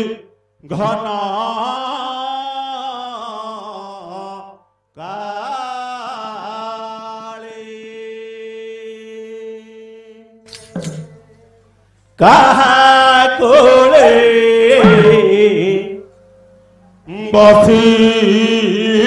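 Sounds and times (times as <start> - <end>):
man singing into a microphone: 0.0 - 10.4, 12.2 - 16.1, 17.0 - 19.0.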